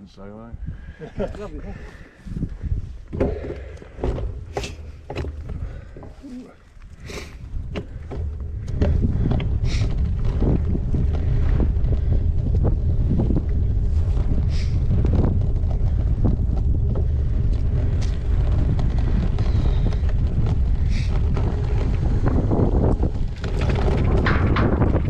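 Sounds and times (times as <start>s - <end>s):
wind buffeting microphone: 0.1s - 25.0s
bike clicks and rattles: 1.9s - 25.0s.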